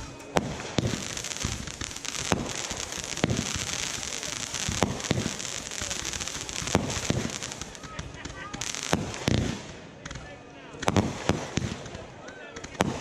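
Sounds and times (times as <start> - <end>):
firework bangs: 0.0 - 13.0
fireworks crackling: 0.0 - 13.0.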